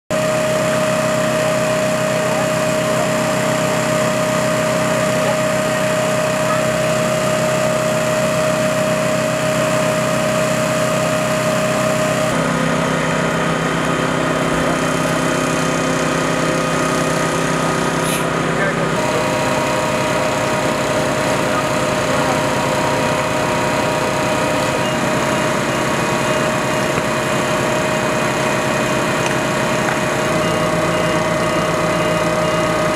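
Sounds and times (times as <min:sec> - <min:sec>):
small engine running: 0:00.1 - 0:32.9.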